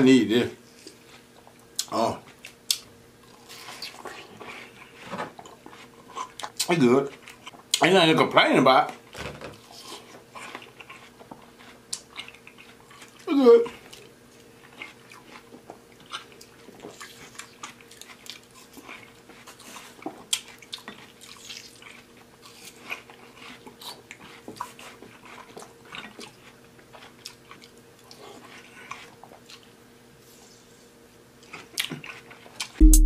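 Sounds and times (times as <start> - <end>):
chewing and biting watermelon: 0.7 - 8.0, 8.8 - 29.8, 31.4 - 33.0.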